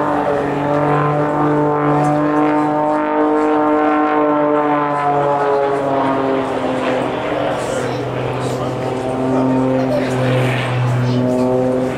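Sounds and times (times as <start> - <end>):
propeller plane engine drone: 0.0 - 11.9.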